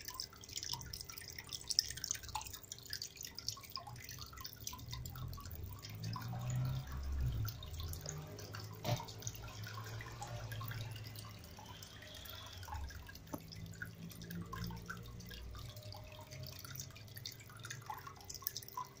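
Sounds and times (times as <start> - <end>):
water drips and trickling: 0.0 - 19.0.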